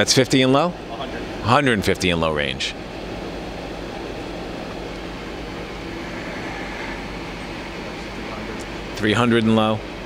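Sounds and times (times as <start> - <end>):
lathe spindle humming: 0.0 - 10.0.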